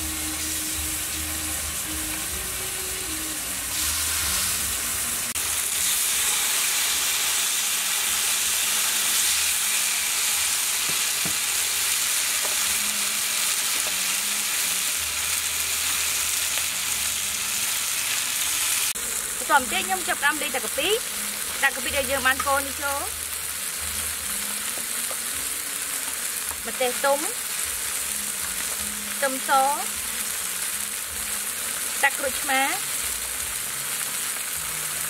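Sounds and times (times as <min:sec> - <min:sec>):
meat sizzling in oil: 0:00.0 - 0:35.0.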